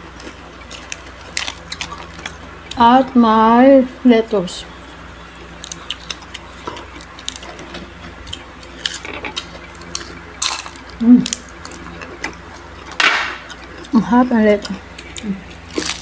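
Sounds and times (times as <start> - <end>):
chewing crisp fried food: 0.0 - 3.2, 4.8 - 16.0.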